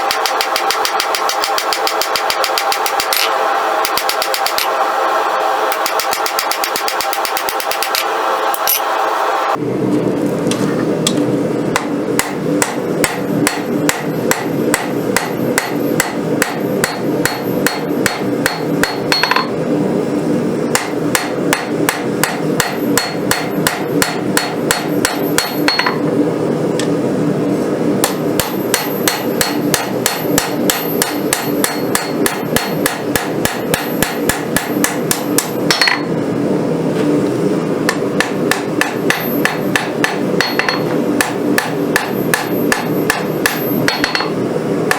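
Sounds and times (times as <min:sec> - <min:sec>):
hammer beating steel on anvil: 0:00.0 - 0:04.8, 0:05.7 - 0:08.9, 0:11.8 - 0:19.5, 0:20.7 - 0:26.0, 0:28.0 - 0:36.1, 0:37.9 - 0:44.9.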